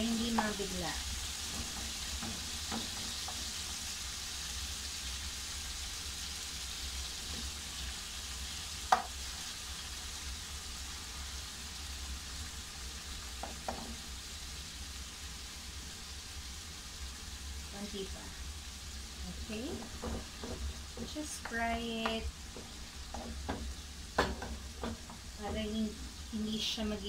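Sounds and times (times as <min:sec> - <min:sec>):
beef sizzling in hot oil: 0:00.0 - 0:27.0.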